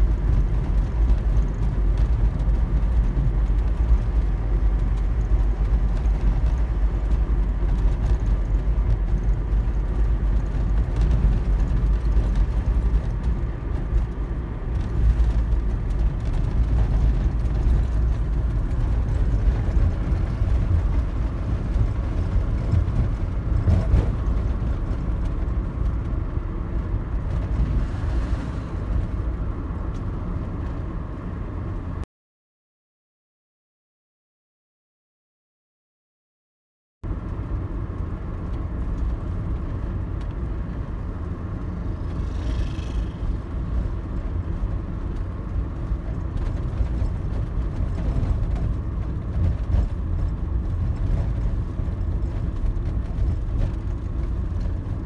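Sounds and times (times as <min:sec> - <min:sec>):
car interior road rumble: 0:00.0 - 0:32.0, 0:37.1 - 0:55.0.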